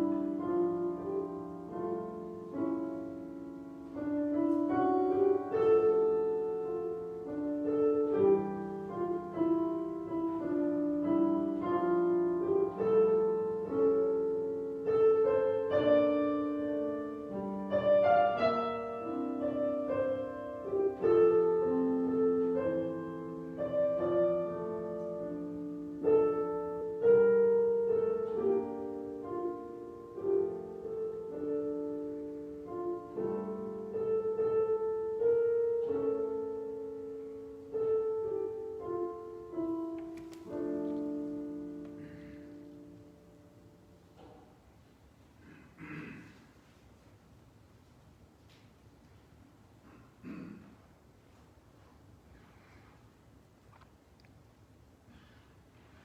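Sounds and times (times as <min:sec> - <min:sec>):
slow solo piano piece: 0:00.0 - 0:46.5.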